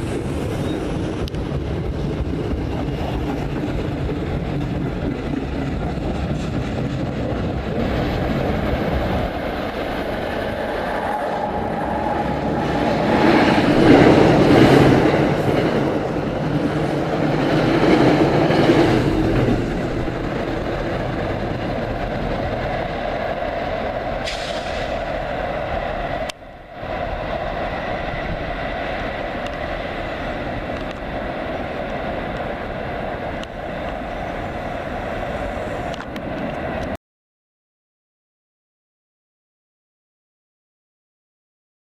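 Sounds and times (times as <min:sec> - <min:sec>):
train rumbling on rails: 0:00.0 - 0:37.0.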